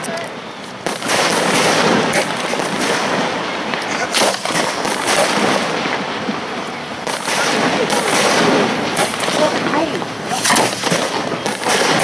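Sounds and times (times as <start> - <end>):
fireworks crackling hiss: 0.0 - 12.0
fireworks launch reports: 0.0 - 12.0.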